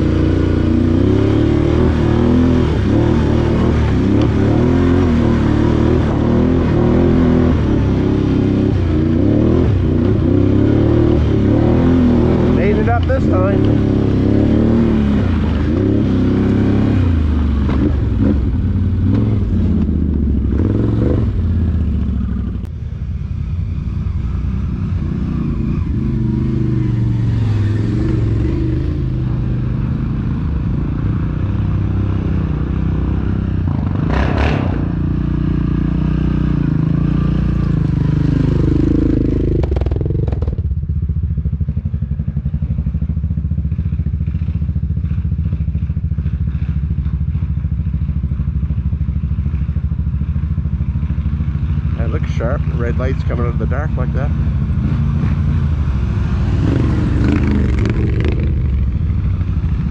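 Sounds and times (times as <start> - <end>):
atv engine revving: 0.0 - 22.7, 24.1 - 40.9, 49.2 - 59.9.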